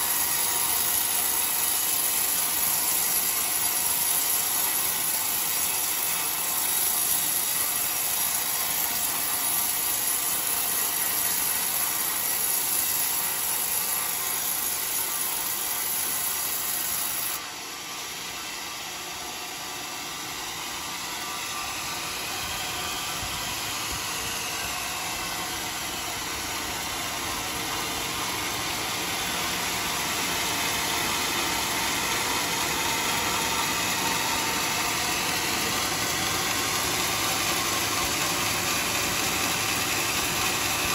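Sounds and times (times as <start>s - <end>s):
saw blade hissing through wood: 0.0s - 40.9s
sawmill running: 0.0s - 40.9s.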